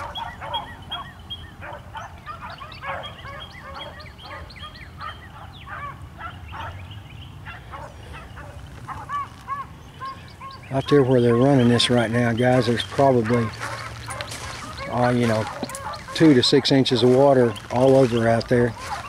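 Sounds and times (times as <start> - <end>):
distant dogs baying: 0.0 - 19.0.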